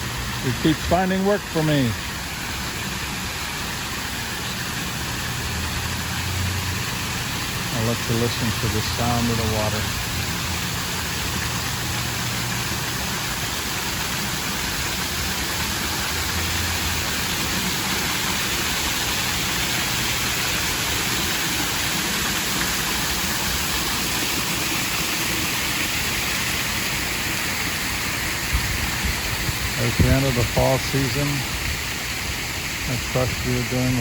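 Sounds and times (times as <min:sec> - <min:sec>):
waterfall splashing into pool: 0:00.0 - 0:34.0.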